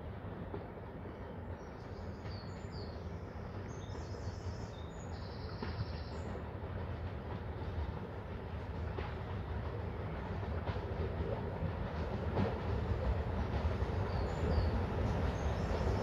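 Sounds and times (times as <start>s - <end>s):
steam locomotive rumbling: 0.0s - 16.0s.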